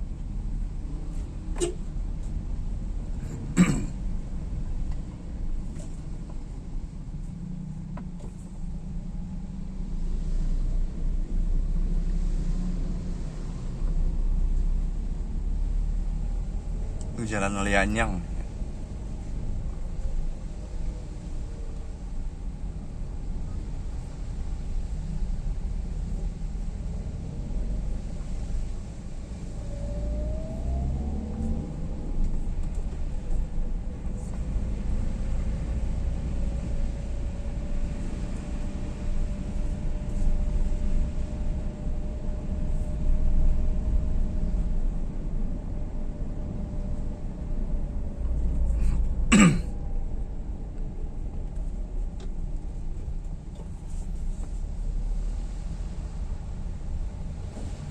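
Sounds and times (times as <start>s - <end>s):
moving vehicle rumble: 0.0s - 57.9s.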